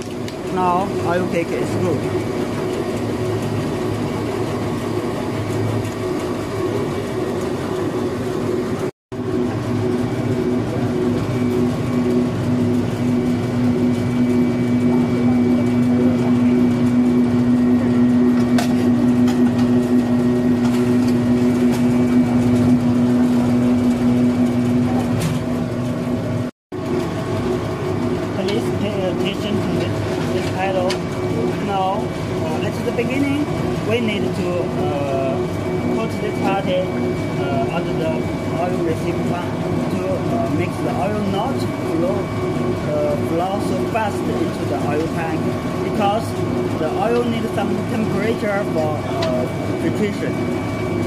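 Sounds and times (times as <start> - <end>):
oil press mechanical hum: 0.0 - 51.0.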